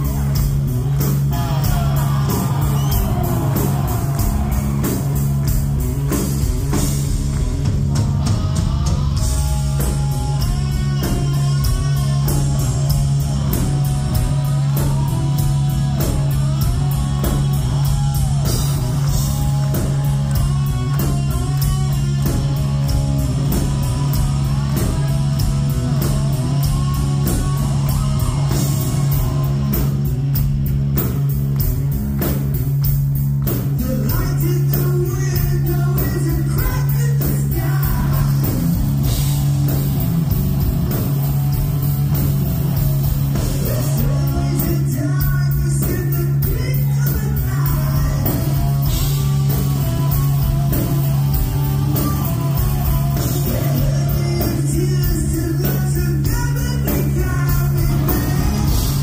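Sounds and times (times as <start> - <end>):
heavy metal band playing: 0.0 - 59.0.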